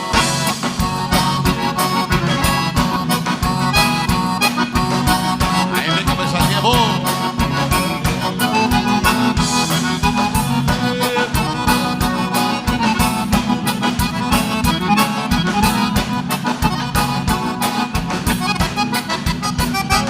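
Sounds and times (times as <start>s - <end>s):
button accordion: 0.0s - 20.0s
drums and bass dance beat: 0.0s - 20.0s.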